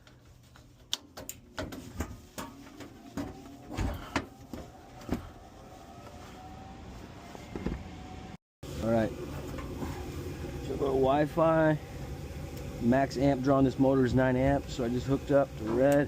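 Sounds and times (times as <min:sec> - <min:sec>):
faint steady tone rising: 0:02.4 - 0:15.6.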